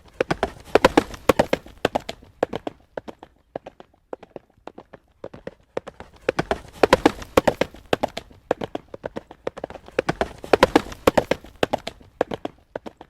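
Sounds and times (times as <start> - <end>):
horse hooves trotting on road: 0.0 - 13.0.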